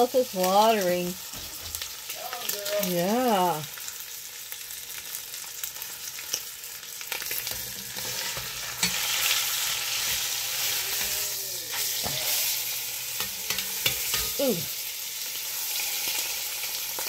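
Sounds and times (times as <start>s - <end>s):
meat sizzling in pot: 0.0s - 17.0s.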